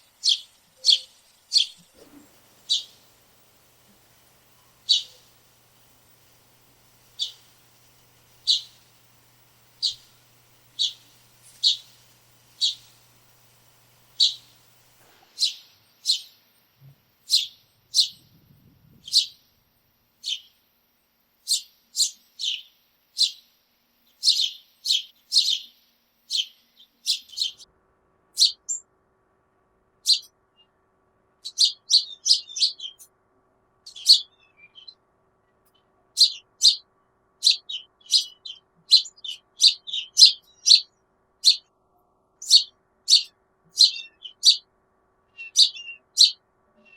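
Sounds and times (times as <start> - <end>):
sparrows chirping: 0.0 - 16.4, 17.2 - 19.5, 20.2 - 20.6, 21.4 - 23.5, 24.1 - 27.6, 28.4 - 28.8, 30.0 - 30.7, 31.4 - 33.1, 33.9 - 35.0, 35.7 - 41.7, 42.4 - 44.7, 45.3 - 46.9.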